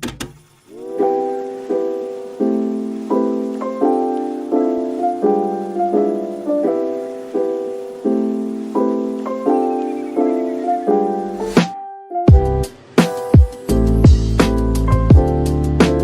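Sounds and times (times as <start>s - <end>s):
keyboard chords: 0.6s - 16.0s.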